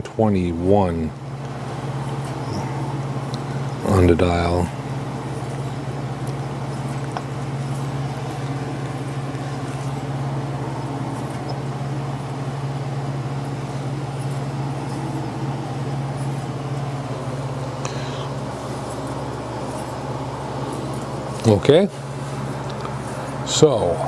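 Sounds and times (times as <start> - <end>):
lathe humming: 0.0 - 24.0.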